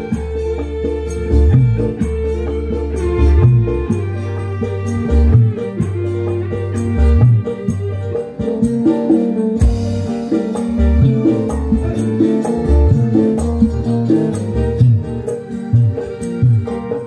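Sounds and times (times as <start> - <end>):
drums beating: 0.0 - 17.0
live band through pa: 0.0 - 17.0.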